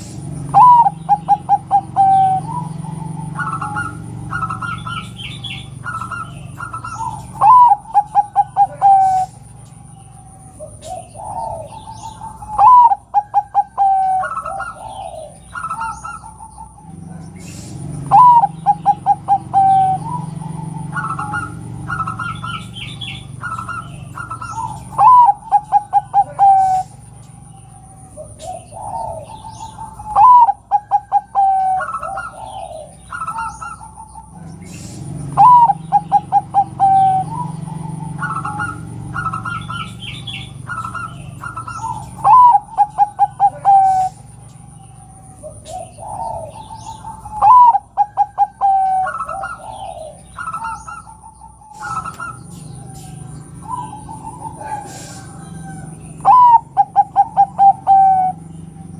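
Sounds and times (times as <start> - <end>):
dove cooing: 0.0 - 58.9.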